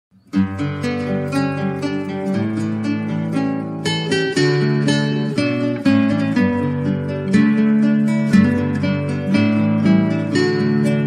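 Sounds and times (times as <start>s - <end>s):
gentle plucked string melody: 0.2s - 11.0s.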